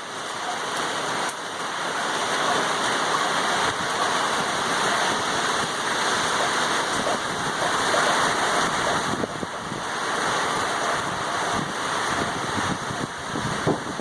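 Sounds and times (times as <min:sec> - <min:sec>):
wind-driven rain rushing: 0:00.0 - 0:14.0.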